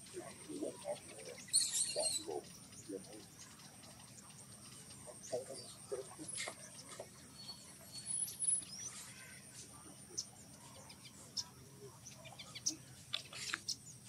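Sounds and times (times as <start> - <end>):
quiet forest ambience: 0.0 - 14.0.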